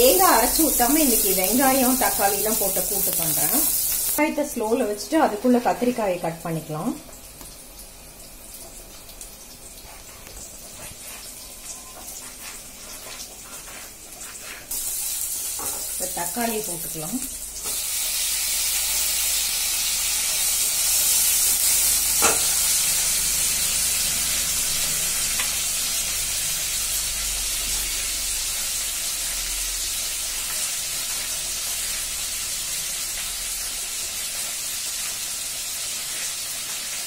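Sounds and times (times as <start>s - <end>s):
vegetables sizzling in hot oil: 0.0s - 37.0s.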